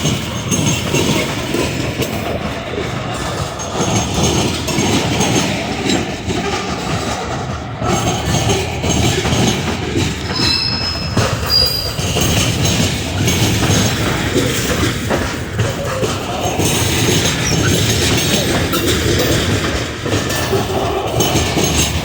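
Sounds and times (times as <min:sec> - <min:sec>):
high wheel squeals: 0:00.0 - 0:22.0
train wheels rumbling on rails: 0:00.0 - 0:22.0.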